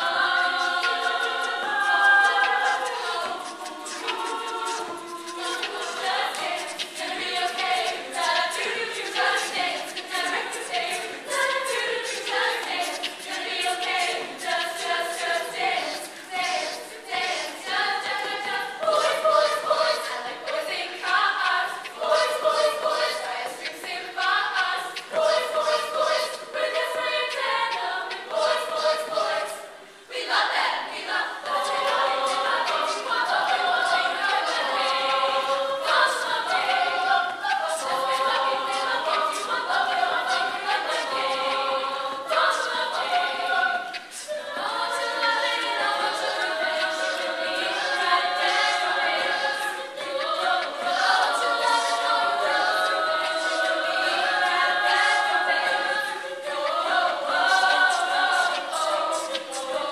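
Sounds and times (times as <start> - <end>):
sharp rhythmic clicks: 0.0 - 29.6, 30.2 - 59.9
women singing in harmony: 0.0 - 59.9.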